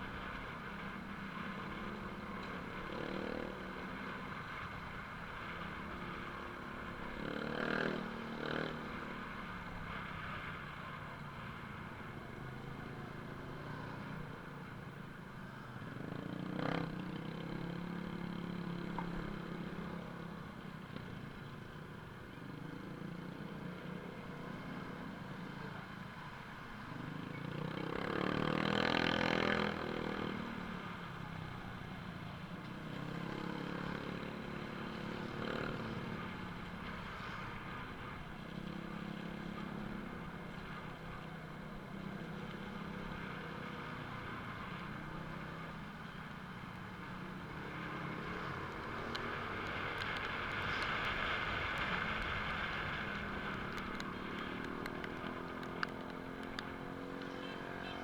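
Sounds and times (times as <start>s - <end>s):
vehicle engines running: 0.0s - 58.0s.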